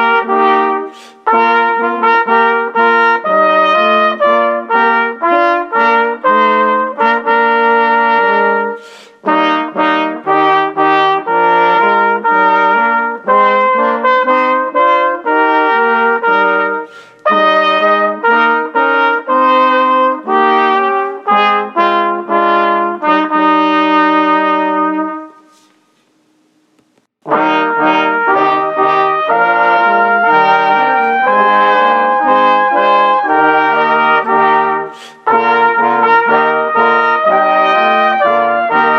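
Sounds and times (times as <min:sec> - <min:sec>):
brass ensemble playing slow chords: 0:00.0 - 0:25.7, 0:27.2 - 0:38.9.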